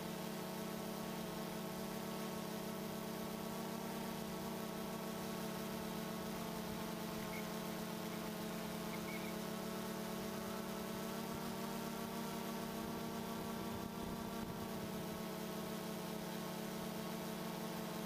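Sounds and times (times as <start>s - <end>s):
drone propellers humming: 2.8s - 18.0s.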